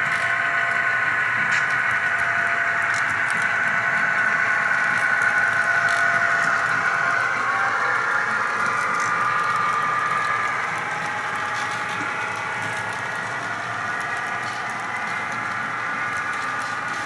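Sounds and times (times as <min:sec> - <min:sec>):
model locomotive whine: 0:00.0 - 0:17.0
model train wheels ticking: 0:00.0 - 0:17.0.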